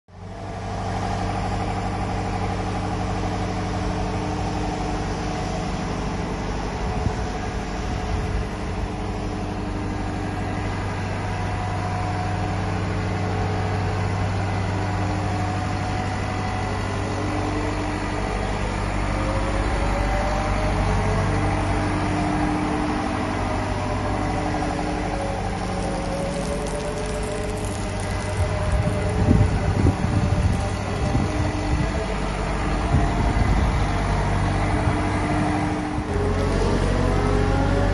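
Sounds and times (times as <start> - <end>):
diesel engine idling: 0.1 - 37.9
faint wavering whine: 0.2 - 37.9.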